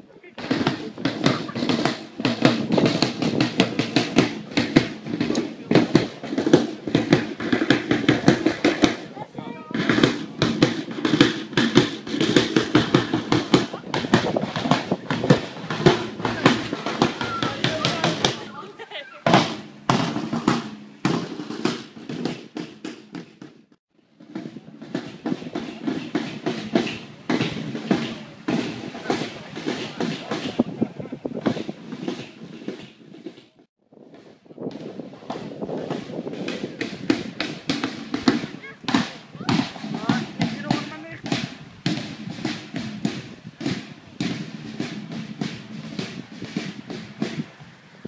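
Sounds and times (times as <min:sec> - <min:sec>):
marching drum beating: 0:00.0 - 0:48.0.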